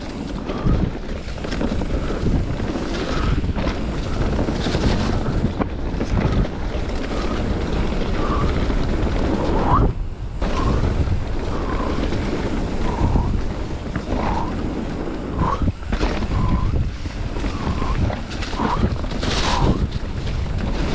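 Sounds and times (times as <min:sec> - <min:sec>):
bike rattling on dirt trail: 0:00.0 - 0:20.9
wind buffeting microphone: 0:00.0 - 0:20.9.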